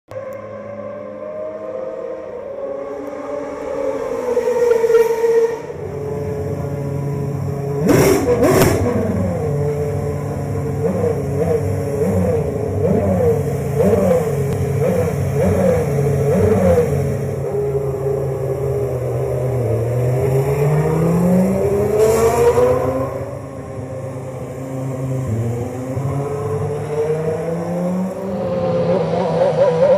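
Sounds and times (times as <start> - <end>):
racing car engine revving: 4.0 - 29.9.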